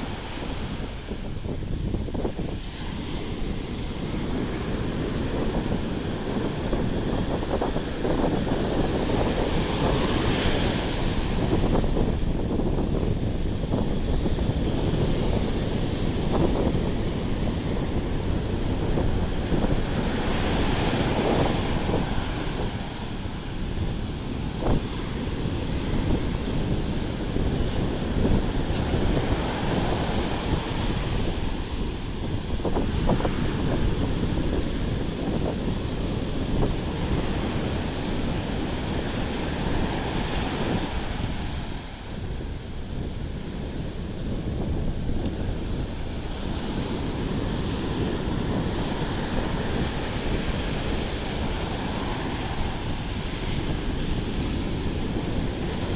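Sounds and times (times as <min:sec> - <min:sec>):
sea surf washing onto beach: 0:00.0 - 0:55.9
wind buffeting microphone: 0:00.0 - 0:55.9.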